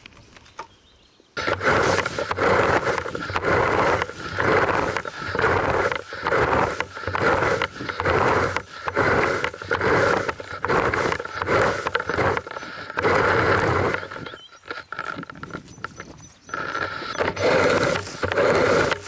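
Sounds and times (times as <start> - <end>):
plastic rake scraping grass: 1.4 - 19.0.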